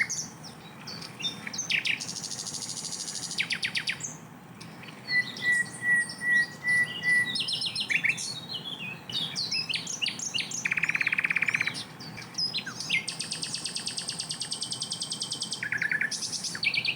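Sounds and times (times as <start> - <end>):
bird singing with trills: 0.0 - 16.9.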